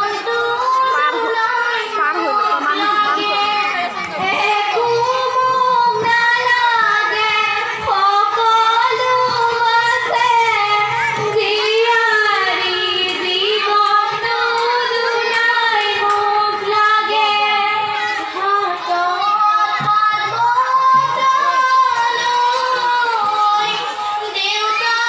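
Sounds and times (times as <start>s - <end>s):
girls singing together: 0.0s - 25.0s.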